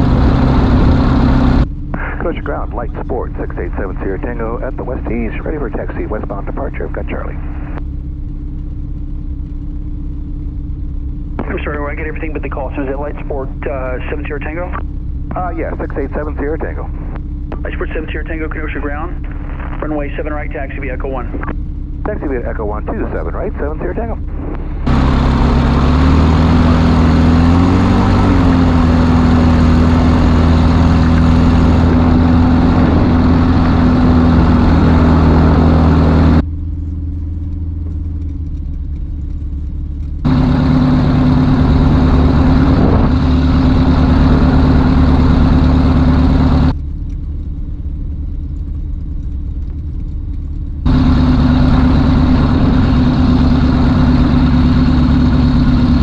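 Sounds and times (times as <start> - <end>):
airplane engine and propeller droning: 0.0 - 56.0.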